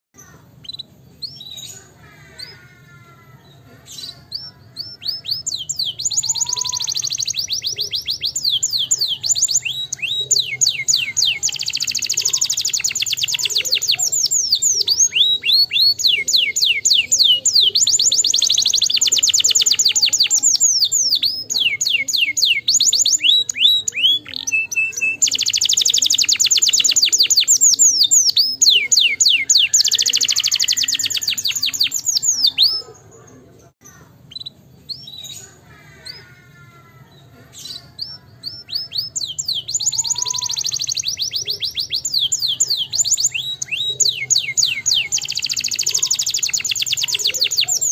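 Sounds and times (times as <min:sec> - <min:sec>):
canary singing trills: 0:00.2 - 0:47.9.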